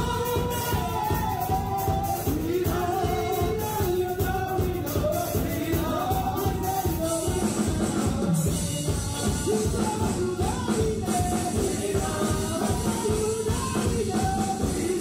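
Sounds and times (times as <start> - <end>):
live band playing: 0.0 - 15.0
women singing gospel: 0.0 - 15.0.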